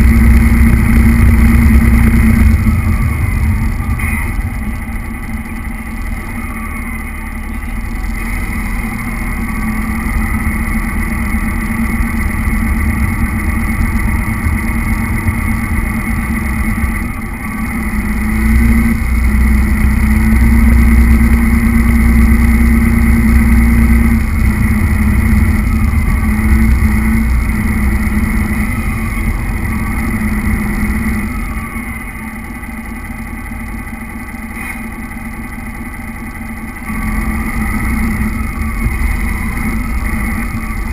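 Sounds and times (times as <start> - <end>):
model truck motor whining: 0.0 - 40.9.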